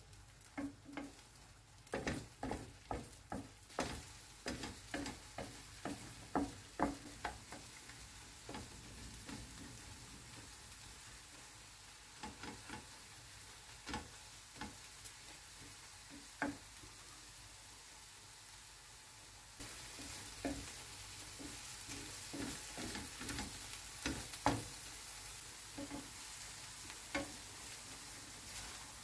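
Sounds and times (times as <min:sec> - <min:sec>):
food sizzling in a pan: 0:00.0 - 0:29.0
wooden spatula scraping a pan: 0:00.4 - 0:17.0, 0:19.6 - 0:29.0.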